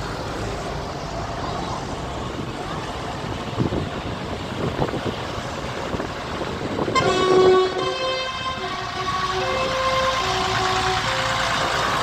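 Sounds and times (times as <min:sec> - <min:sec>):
truck and tractor engines running: 0:00.0 - 0:12.0.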